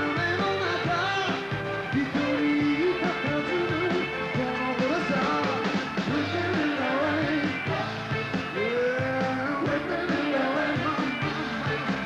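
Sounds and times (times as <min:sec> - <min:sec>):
man singing: 0:00.0 - 0:11.8
bass guitar: 0:00.0 - 0:12.0
drums: 0:00.0 - 0:12.0
electric guitar: 0:00.0 - 0:12.0.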